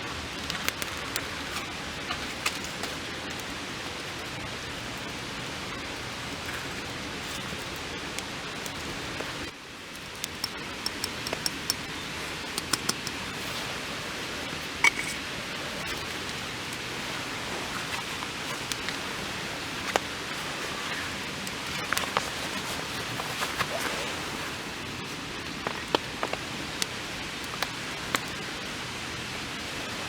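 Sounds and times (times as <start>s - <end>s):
rain falling on a tarp: 0.0s - 30.0s.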